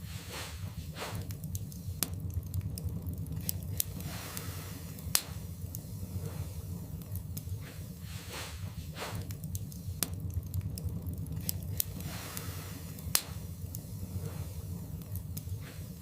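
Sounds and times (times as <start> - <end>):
fire crackling and popping: 0.0 - 16.0
fire low rumble: 0.0 - 16.0
soft hiss: 0.0 - 16.0.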